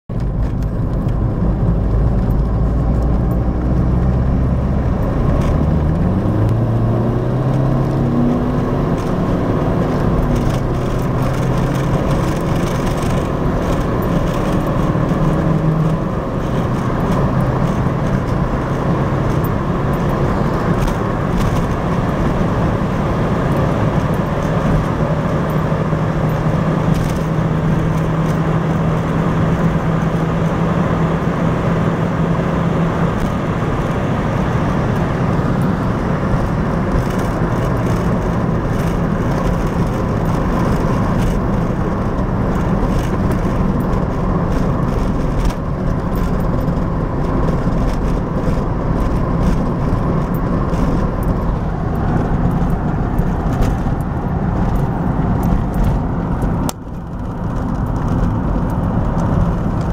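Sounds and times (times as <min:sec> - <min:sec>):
diesel engine accelerating hard: 0:00.1 - 0:59.9.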